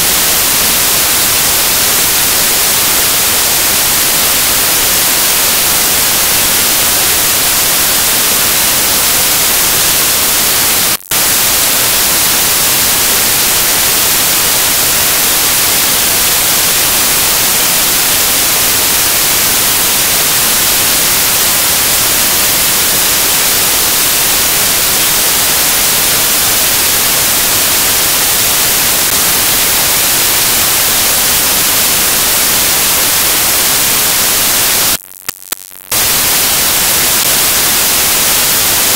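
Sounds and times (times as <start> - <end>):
electronic static hiss: 0.0 - 38.9.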